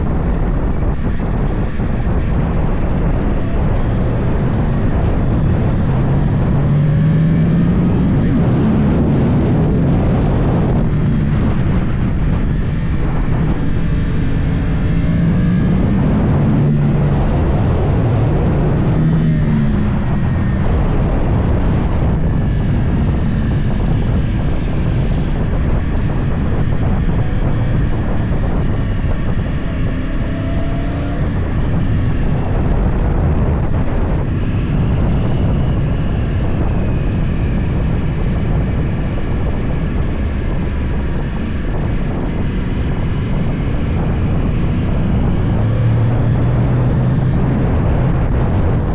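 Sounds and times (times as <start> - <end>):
motorcycle engine revving: 0.0 - 48.9
wind on microphone: 0.0 - 48.9.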